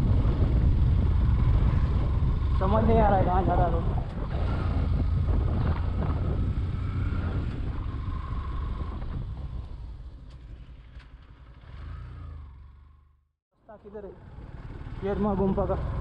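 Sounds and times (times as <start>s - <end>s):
motorcycle engine running: 0.0s - 13.2s, 13.8s - 16.0s.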